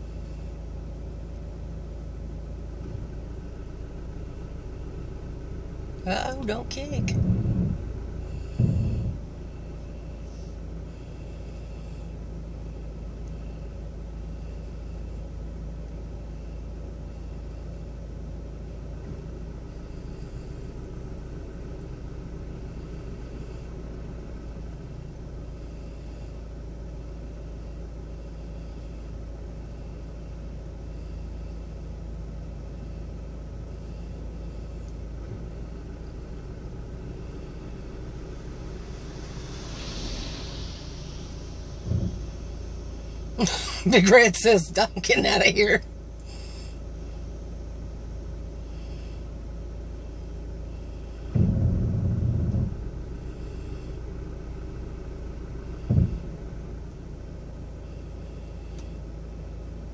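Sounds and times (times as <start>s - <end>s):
car engine and cabin rumble: 0.0s - 59.9s.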